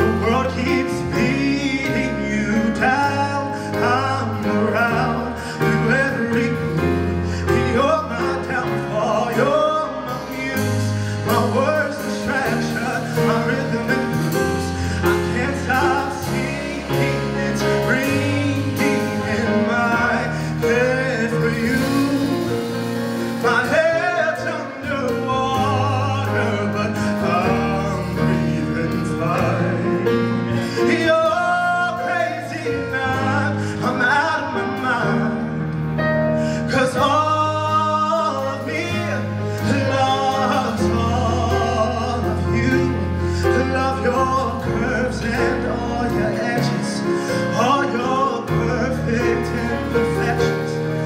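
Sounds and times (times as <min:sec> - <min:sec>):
band accompanying: 0:00.0 - 0:51.0
man singing pop ballad: 0:00.0 - 0:51.0
sustained bass line: 0:00.0 - 0:51.0.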